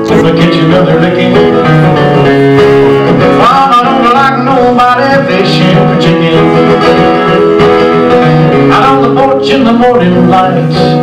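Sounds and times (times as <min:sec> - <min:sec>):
country song with guitar: 0:00.0 - 0:11.0.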